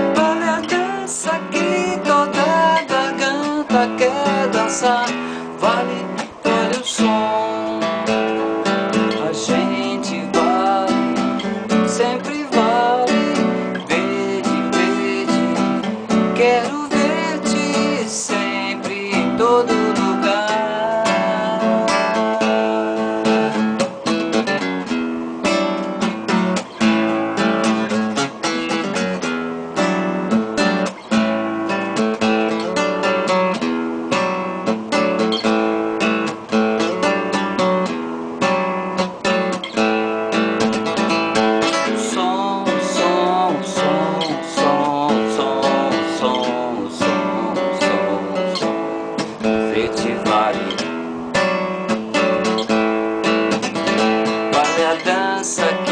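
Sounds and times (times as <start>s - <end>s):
acoustic guitar strummed and picked: 0.0s - 55.9s.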